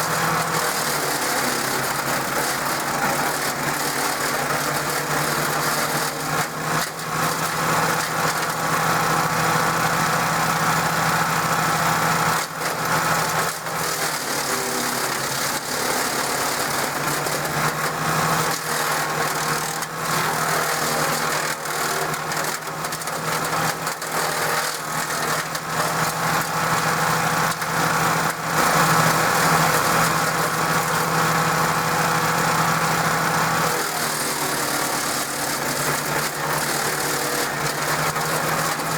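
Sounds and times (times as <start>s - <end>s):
wood chipper running: 0.0s - 38.9s.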